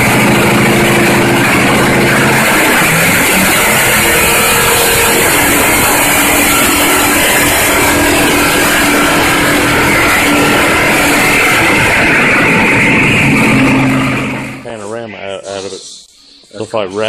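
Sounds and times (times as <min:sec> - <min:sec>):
race engine revving: 0:00.0 - 0:14.7.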